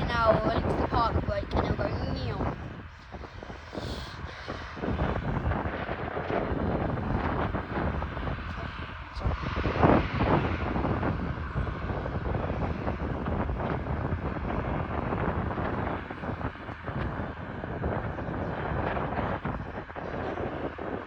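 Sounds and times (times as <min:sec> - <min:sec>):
distant turboprop engines: 0:00.0 - 0:21.0
wind on microphone: 0:00.0 - 0:21.0.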